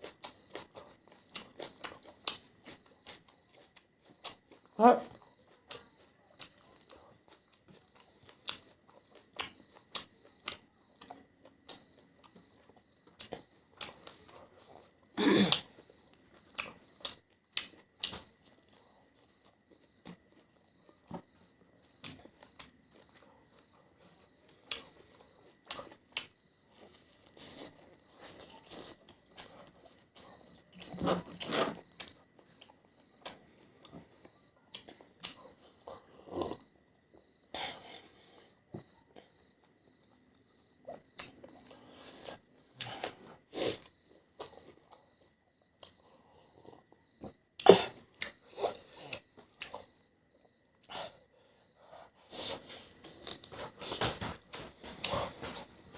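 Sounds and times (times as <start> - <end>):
person chewing and crunching: 0.0 - 37.4, 38.4 - 55.9.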